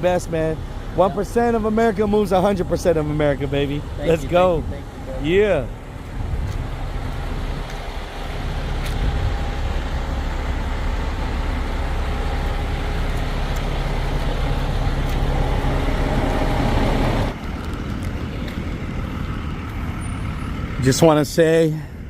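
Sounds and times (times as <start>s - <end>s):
diesel truck engines rumbling: 0.0s - 22.0s
engine whine: 0.0s - 22.0s.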